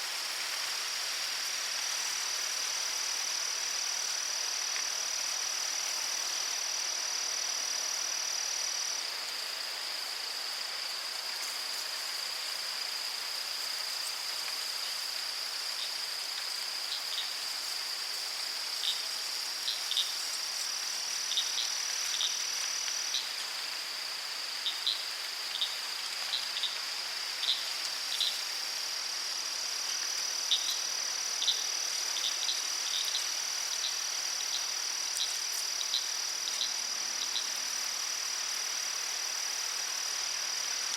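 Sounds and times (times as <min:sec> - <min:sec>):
insect chorus buzzing drone: 0:00.0 - 0:40.9.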